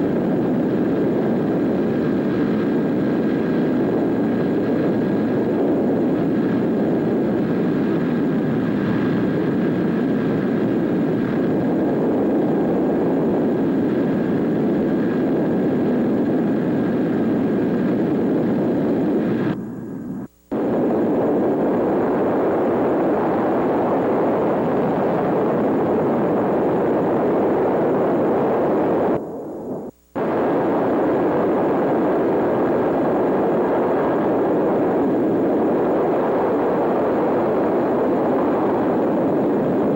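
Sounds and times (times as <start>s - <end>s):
aircraft engines droning: 0.0s - 35.9s.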